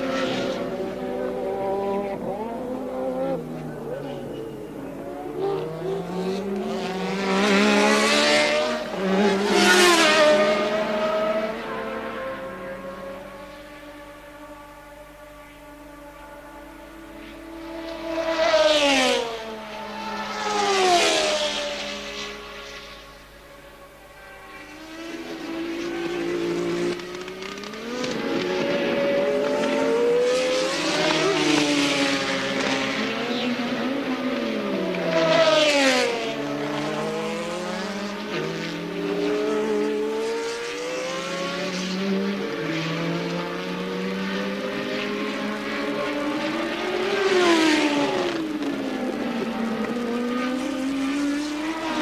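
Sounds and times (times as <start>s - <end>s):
distant race car engines: 0.0s - 52.0s
race cars passing by: 0.0s - 52.0s.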